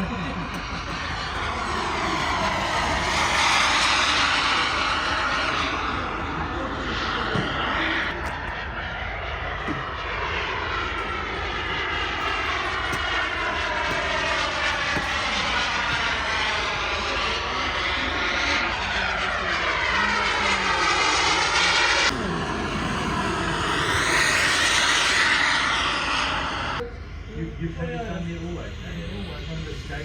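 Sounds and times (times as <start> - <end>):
model aeroplane engine buzzing: 0.0 - 30.0.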